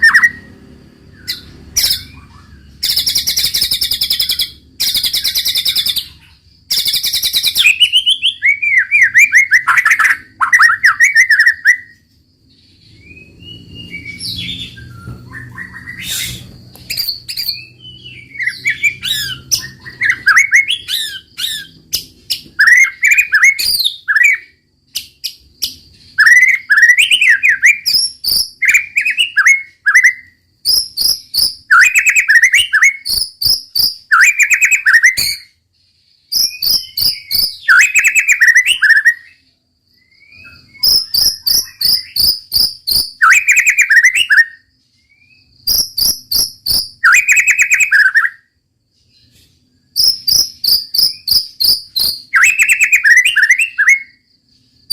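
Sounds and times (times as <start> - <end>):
songbird singing whistled phrases: 0.0 - 54.9.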